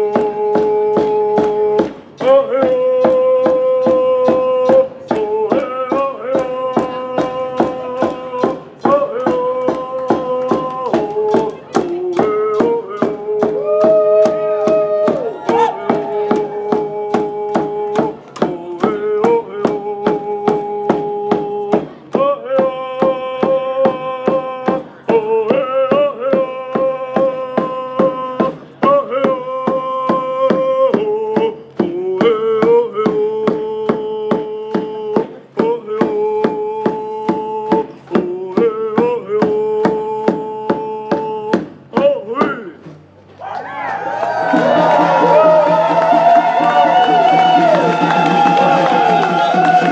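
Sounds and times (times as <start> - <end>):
person singing long notes: 0.0 - 42.8
frame drums beating: 0.0 - 43.2, 44.0 - 49.9.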